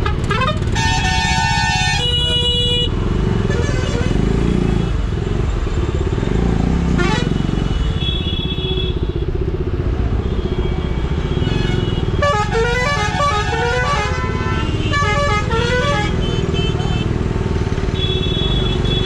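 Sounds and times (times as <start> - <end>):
vehicle horns honking: 0.0 - 5.0, 6.9 - 9.3, 10.2 - 17.2, 17.9 - 19.0.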